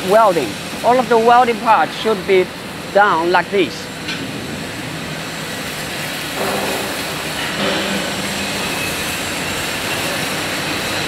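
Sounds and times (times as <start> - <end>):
machinery hiss: 0.0 - 11.0.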